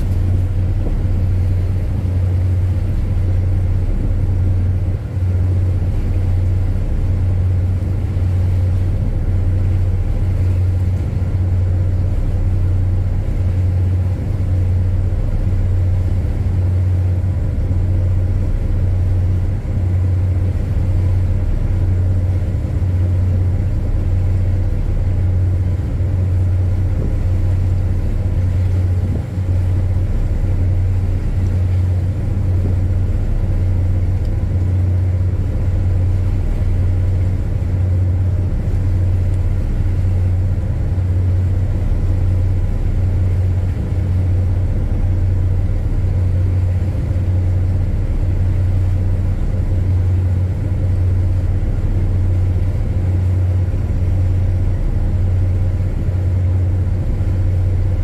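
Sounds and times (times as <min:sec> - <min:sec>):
ship engine droning: 0:00.0 - 0:58.0.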